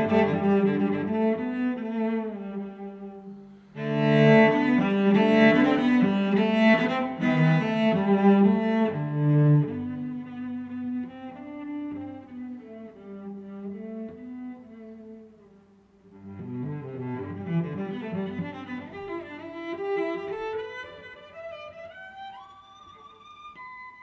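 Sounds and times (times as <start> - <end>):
slow bowed string melody: 0.0 - 15.5, 16.1 - 24.0.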